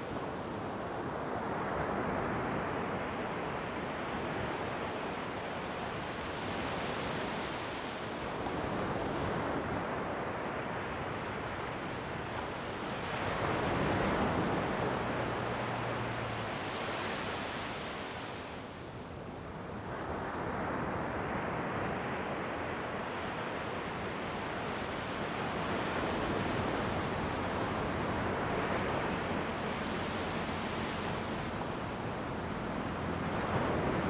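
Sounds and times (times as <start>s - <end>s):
ocean waves breaking on shore: 0.0s - 34.0s.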